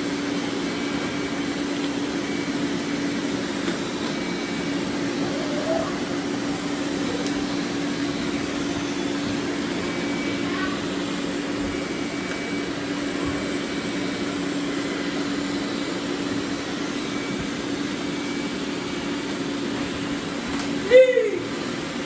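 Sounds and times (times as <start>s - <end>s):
robot vacuums whirring: 0.0s - 20.8s.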